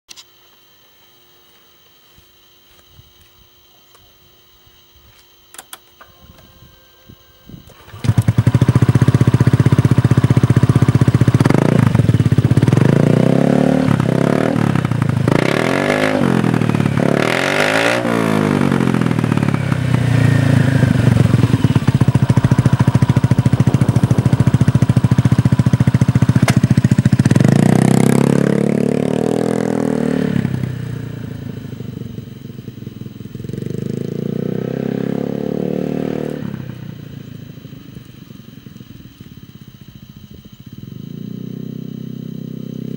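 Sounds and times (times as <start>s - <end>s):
scooter engine idling and revving: 7.6s - 42.9s.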